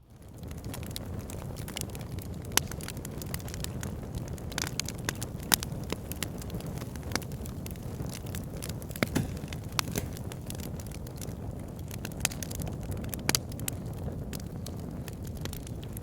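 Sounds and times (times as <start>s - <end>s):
fire crackling and popping: 0.0s - 16.0s
fire pit rumbling: 0.1s - 16.0s.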